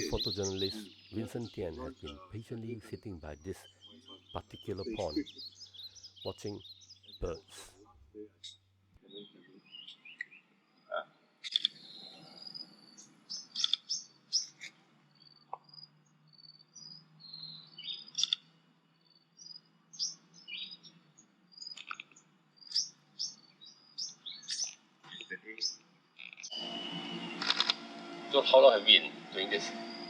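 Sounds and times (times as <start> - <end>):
wild birds chirping: 0.0 - 30.0.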